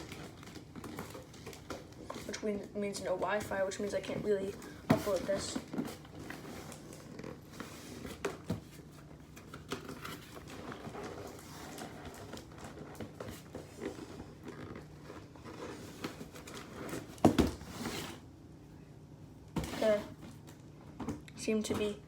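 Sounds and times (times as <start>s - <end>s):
parcel rustling and crinkling: 0.0s - 18.4s.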